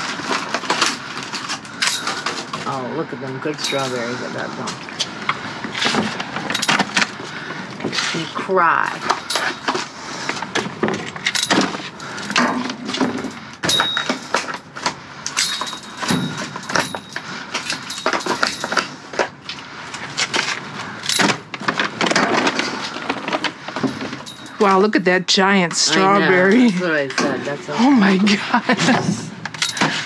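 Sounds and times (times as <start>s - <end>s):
plastic packaging rustling and clattering: 0.0s - 24.7s.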